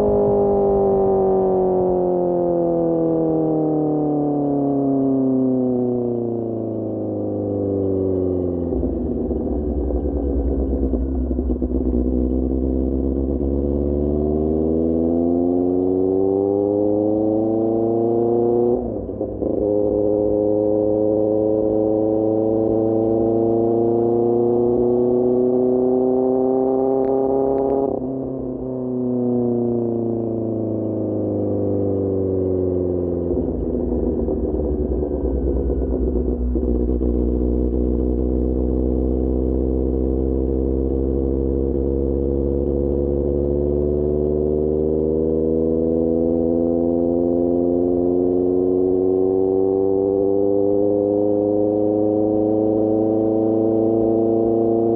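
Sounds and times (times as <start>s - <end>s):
motorcycle engine revving: 0.0s - 3.6s, 5.6s - 54.9s.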